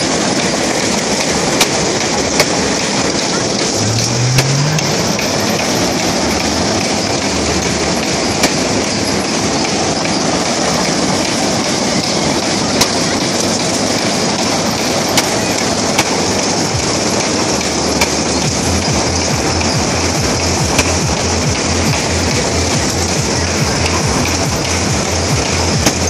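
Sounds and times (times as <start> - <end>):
ride wheels rumbling on track: 0.0 - 26.0.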